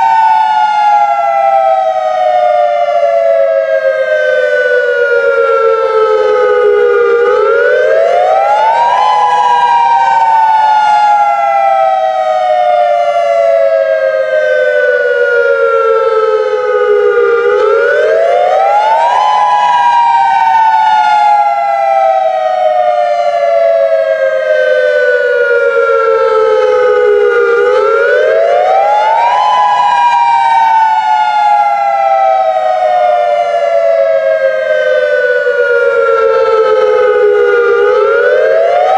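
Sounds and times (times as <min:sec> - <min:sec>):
dual-tone warning siren: 0:00.0 - 0:38.9.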